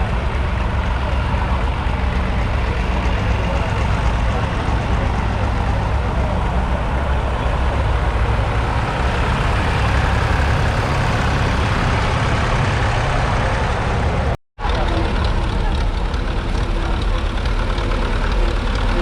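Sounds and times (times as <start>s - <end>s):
tractor engines rumbling: 0.0s - 19.0s.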